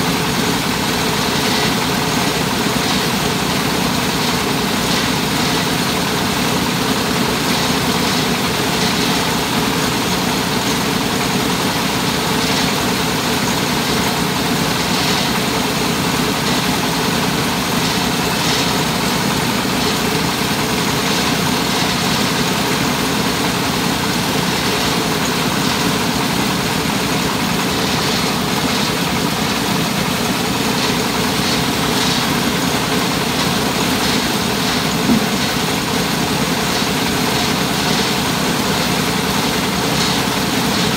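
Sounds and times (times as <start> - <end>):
rice hulling machine running: 0.0 - 40.9.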